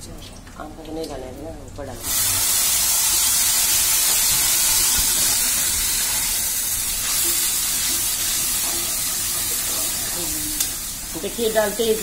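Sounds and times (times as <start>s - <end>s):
paste sizzling in hot oil: 2.0s - 12.0s.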